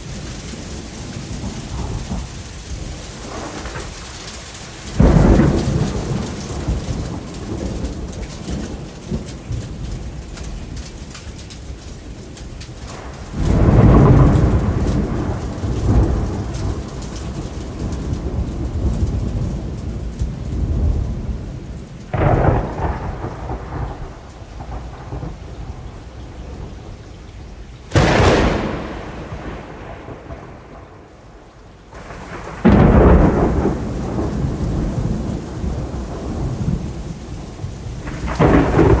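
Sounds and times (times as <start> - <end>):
heavy rain: 0.0 - 39.0
thunder rumbling and cracking: 0.0 - 39.0.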